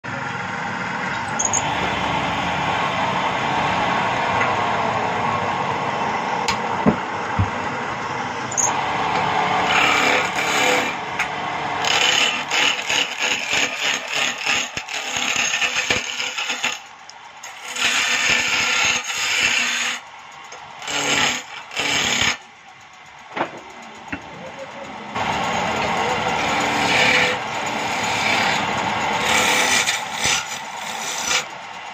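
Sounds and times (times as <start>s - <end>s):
wood lathe running: 0.1s - 31.9s.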